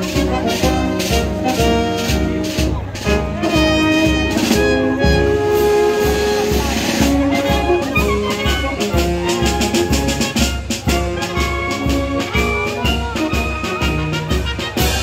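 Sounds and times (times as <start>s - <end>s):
brass band music: 0.0s - 15.0s
steady drum beat: 0.0s - 15.0s.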